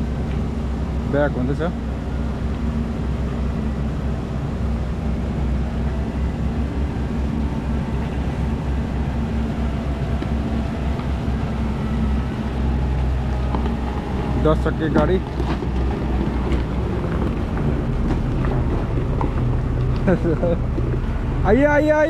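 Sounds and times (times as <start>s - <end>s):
heavy diesel engines running: 0.0s - 22.0s.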